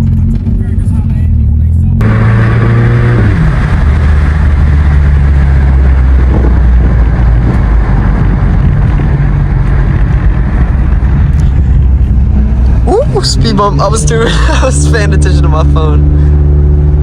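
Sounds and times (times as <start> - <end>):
sports car engine droning: 0.0 - 17.0.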